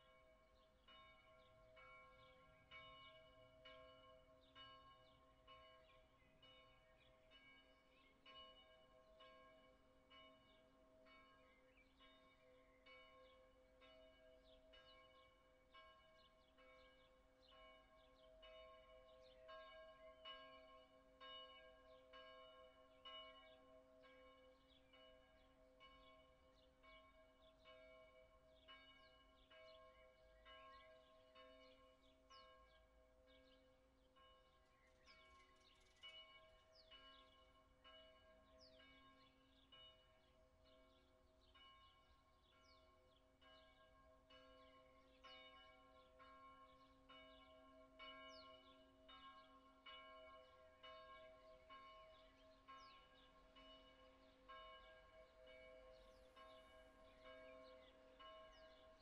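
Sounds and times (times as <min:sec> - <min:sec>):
distant church bells ringing: 0:00.0 - 0:59.0.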